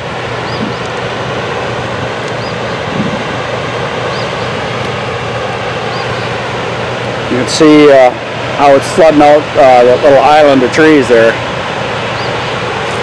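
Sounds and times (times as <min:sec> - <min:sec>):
water pouring through dam spillway: 0:00.0 - 0:13.0.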